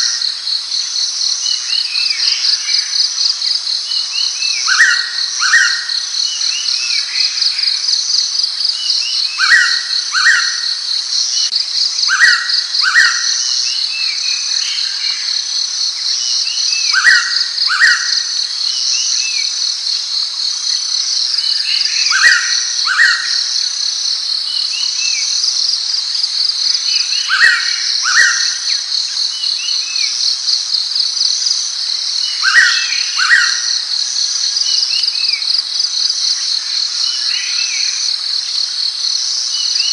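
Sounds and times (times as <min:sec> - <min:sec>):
high insect chorus: 0:00.0 - 0:39.9.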